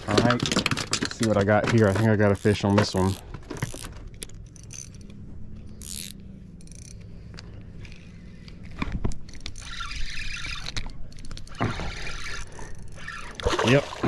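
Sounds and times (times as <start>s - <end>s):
fishing reel clicking and scraping: 0.4s - 13.5s.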